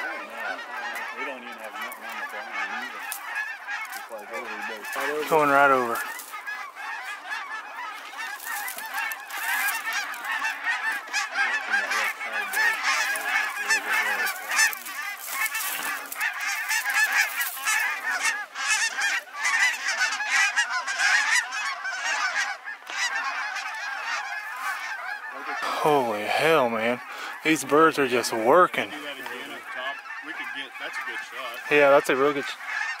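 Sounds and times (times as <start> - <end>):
flock of geese honking: 0.0 - 33.0.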